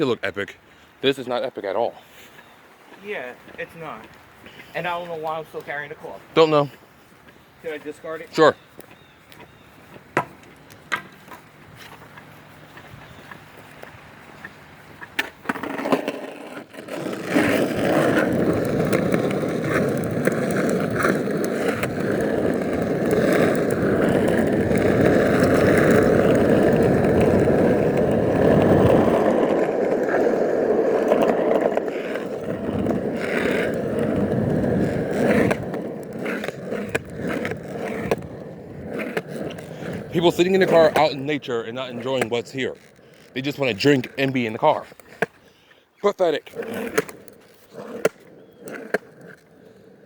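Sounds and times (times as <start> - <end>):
skateboard wheels rolling on pavement: 0.0 - 50.0.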